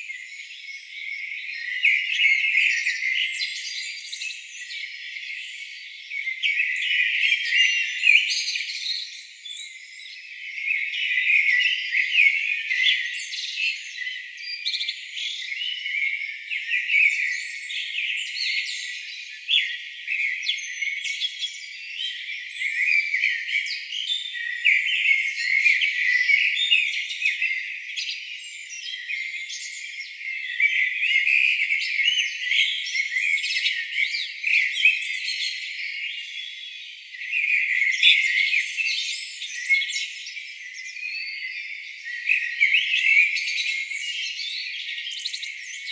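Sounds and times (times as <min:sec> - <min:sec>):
songbirds chirping and trilling: 0:00.0 - 0:45.9.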